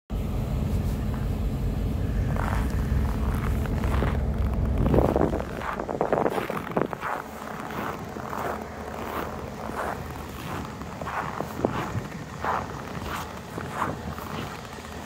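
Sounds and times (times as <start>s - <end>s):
low engine rumble: 0.1s - 15.0s
crunching or rustling: 2.1s - 15.0s.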